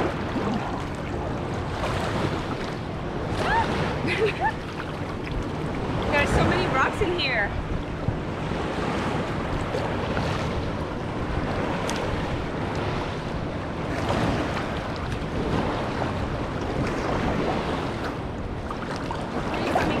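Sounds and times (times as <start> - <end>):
sea waves washing: 0.0 - 20.0
wind buffeting microphone: 0.0 - 20.0.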